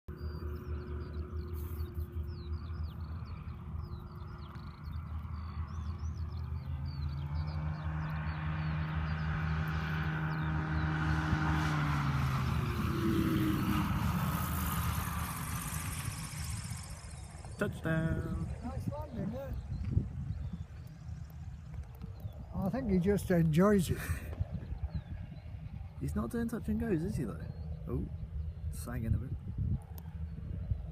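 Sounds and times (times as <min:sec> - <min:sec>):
propeller aircraft engine passing: 0:00.1 - 0:30.9
small birds chirping: 0:00.1 - 0:30.9.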